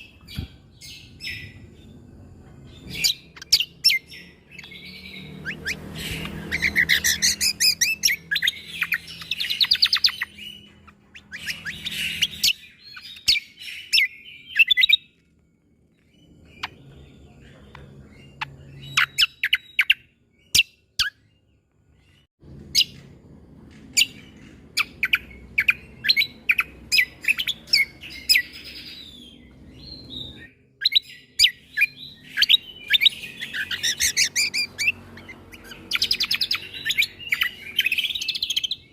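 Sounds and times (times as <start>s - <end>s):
bird song staccato notes: 0.0s - 15.1s, 16.0s - 38.9s.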